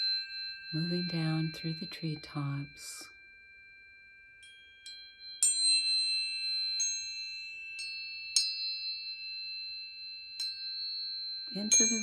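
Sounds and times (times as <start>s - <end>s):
tuning forks ringing: 0.0s - 12.0s.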